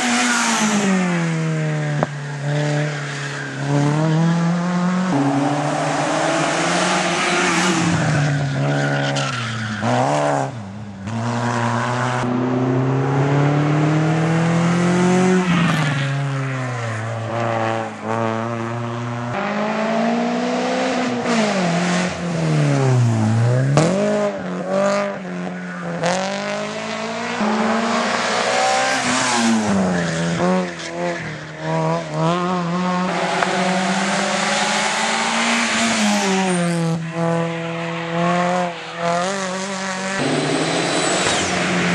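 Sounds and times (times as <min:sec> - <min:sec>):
race car engines revving: 0:00.0 - 0:41.9.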